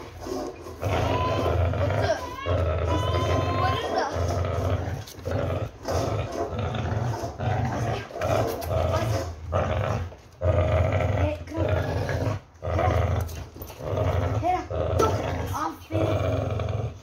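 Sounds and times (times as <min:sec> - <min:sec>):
dog growling: 0:00.0 - 0:17.0.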